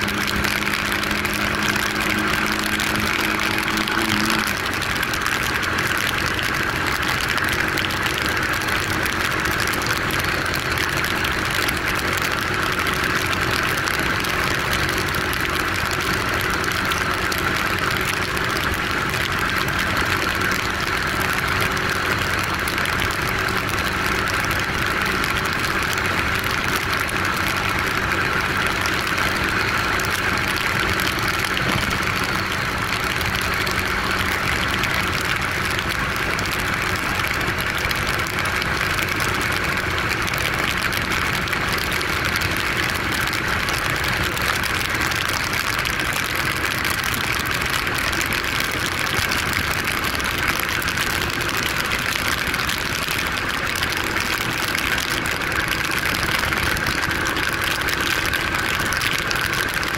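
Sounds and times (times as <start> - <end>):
motorcycle engine running: 0.0 - 59.9
tyre noise on wet road: 0.0 - 59.9.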